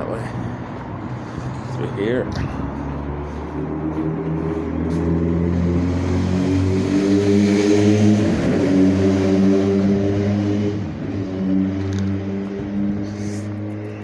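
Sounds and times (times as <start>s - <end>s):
engine running low hum: 0.0s - 14.0s.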